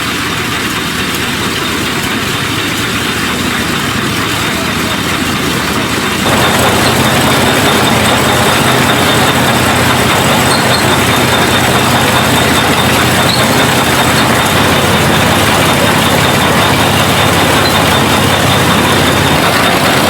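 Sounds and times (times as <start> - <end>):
farm machinery running: 0.0 - 20.0.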